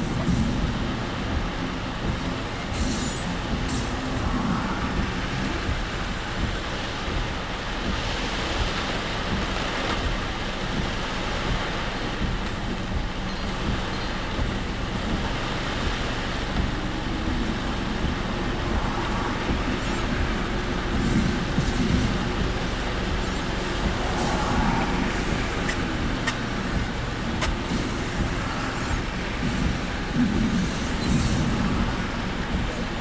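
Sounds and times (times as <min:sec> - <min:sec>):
low engine and road rumble: 0:00.0 - 0:33.0
rain on car: 0:00.0 - 0:33.0.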